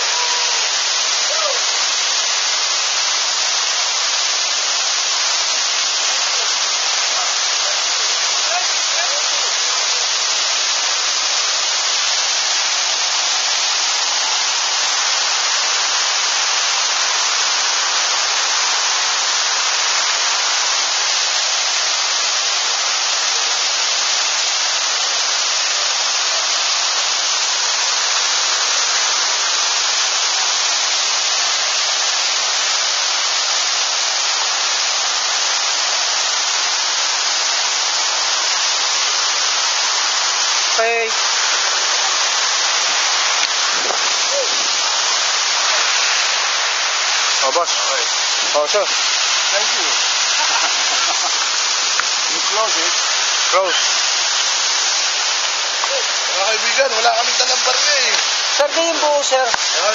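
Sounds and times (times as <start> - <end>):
waterfall hissing: 0.0 - 59.9.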